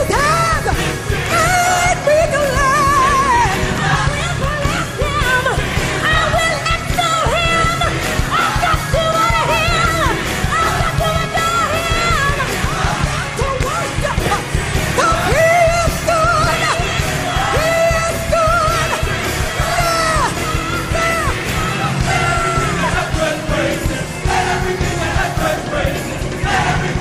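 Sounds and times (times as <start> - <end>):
band playing driving beat: 0.0 - 27.0
gospel choir singing: 0.0 - 27.0.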